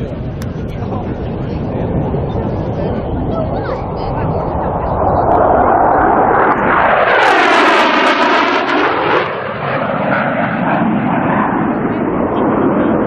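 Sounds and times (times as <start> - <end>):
jet engine passing by: 0.0 - 13.0.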